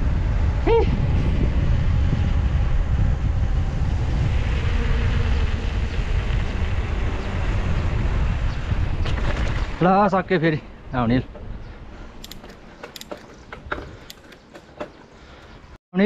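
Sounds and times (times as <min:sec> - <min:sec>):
wind buffeting microphone: 0:00.0 - 0:15.0
rough bicycle ride noise: 0:00.0 - 0:15.8.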